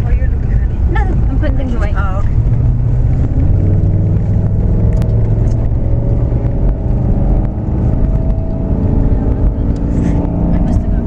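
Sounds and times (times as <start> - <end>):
vehicle engine and tyre rumble: 0.0 - 11.0.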